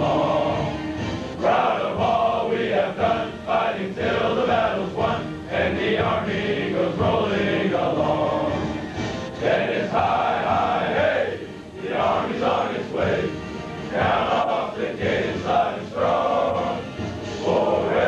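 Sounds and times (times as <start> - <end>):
ceremonial military song: 0.0 - 18.0
choir singing: 0.0 - 18.0.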